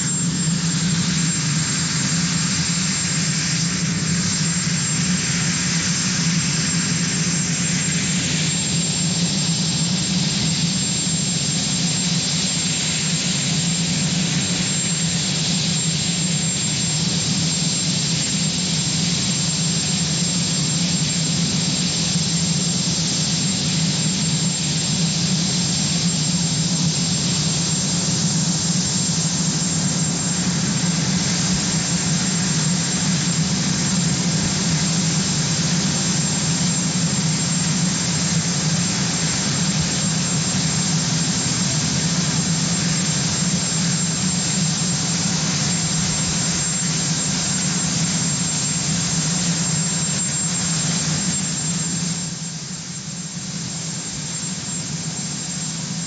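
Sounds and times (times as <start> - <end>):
helicopter turbine engines whining: 0.0 - 56.0.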